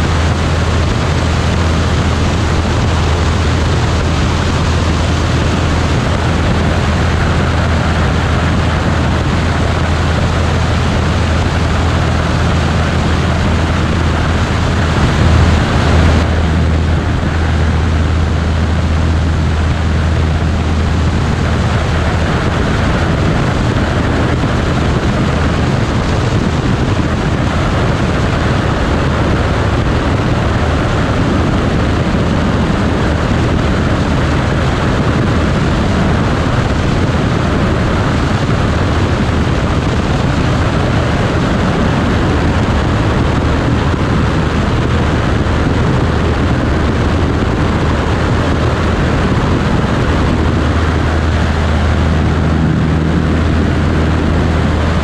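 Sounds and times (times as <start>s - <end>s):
biplane engine and propeller drone: 0.0s - 55.0s
wind rushing: 0.0s - 55.0s.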